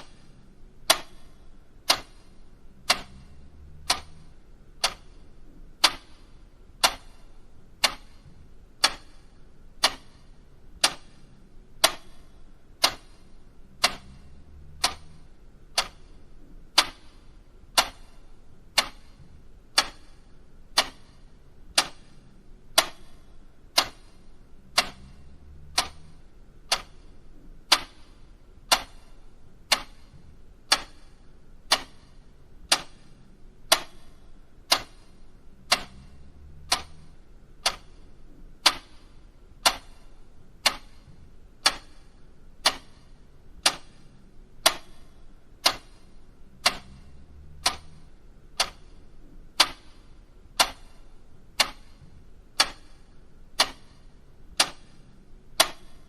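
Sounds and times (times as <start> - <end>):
mechanical clock ticking: 0.0 - 56.0.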